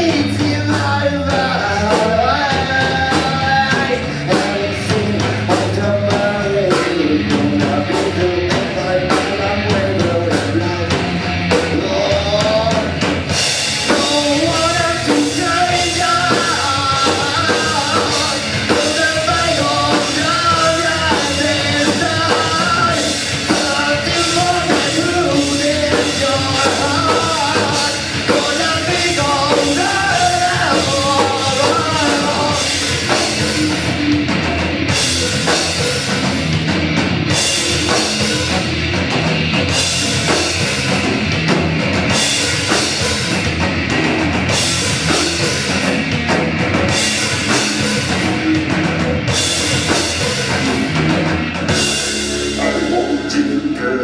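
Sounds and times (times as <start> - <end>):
live rock band playing: 0.0 - 54.0
melodic lead line: 0.0 - 54.0.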